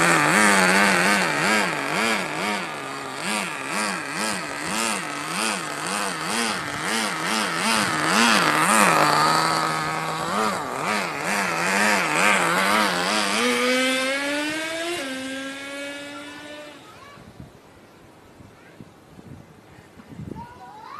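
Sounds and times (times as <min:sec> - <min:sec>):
nitro engine of rc buggy running: 0:00.0 - 0:17.2.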